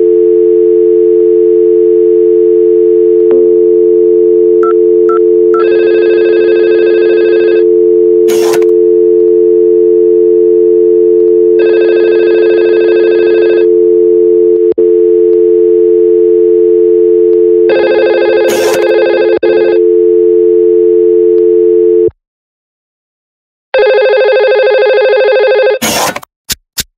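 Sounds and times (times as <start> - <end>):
telephone ringing tone: 0.0 - 22.1, 23.8 - 25.8
two-pitch dial tone: 0.0 - 22.1, 23.8 - 25.8.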